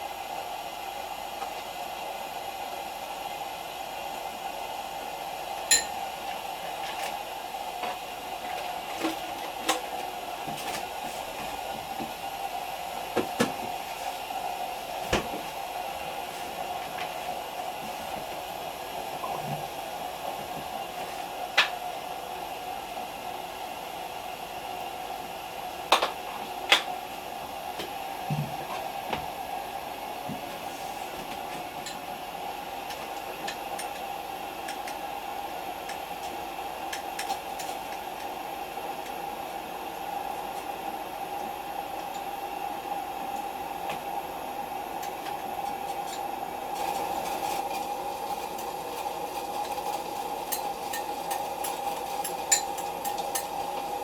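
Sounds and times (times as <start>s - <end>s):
fan-like mechanical hum: 0.0s - 54.0s.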